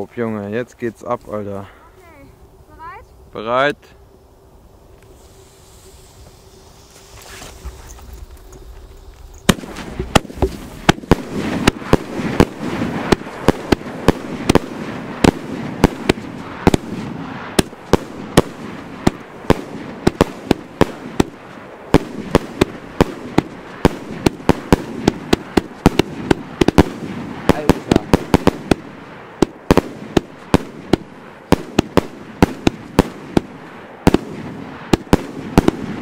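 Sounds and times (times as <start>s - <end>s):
firework reports: 0.0s - 4.2s, 4.8s - 36.0s
rushing firework launches: 4.9s - 36.0s.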